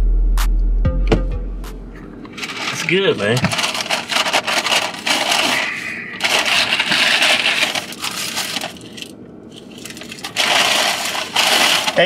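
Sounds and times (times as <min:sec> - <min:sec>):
paper bag rustling and crinkling: 0:02.3 - 0:12.0.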